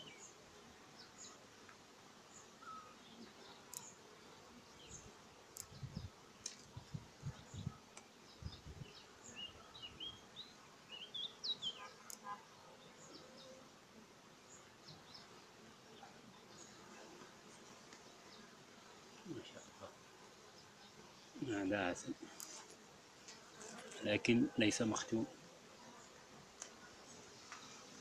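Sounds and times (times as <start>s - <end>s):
small birds chirping: 0.0s - 1.4s, 2.3s - 13.6s, 14.4s - 28.0s
honeybees humming: 0.0s - 28.0s.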